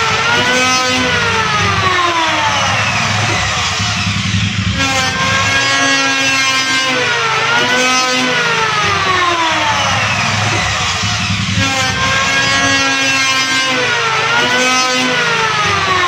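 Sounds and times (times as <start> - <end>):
electric wood planer whine: 0.0 - 16.0.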